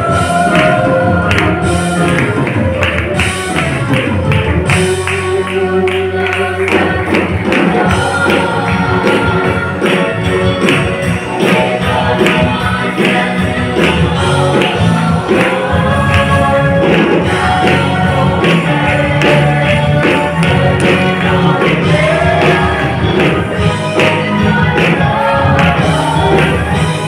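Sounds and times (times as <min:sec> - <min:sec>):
choir singing gospel: 0:00.0 - 0:27.0
drum kit steady beat: 0:00.0 - 0:27.0
live band playing: 0:00.0 - 0:27.0.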